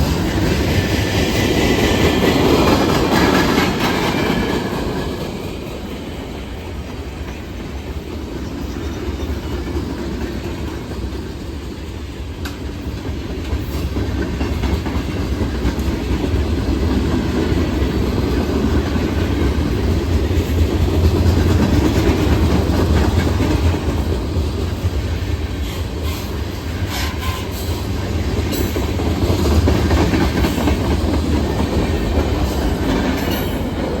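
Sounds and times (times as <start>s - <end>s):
wheels clicking over rail joints: 0.0s - 25.0s, 27.8s - 34.0s
freight train rumbling past: 0.0s - 34.0s.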